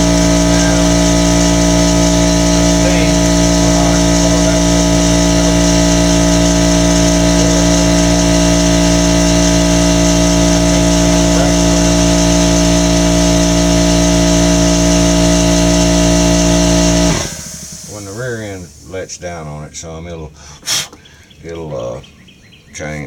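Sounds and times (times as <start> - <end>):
engine running with low pulse: 0.0 - 20.4.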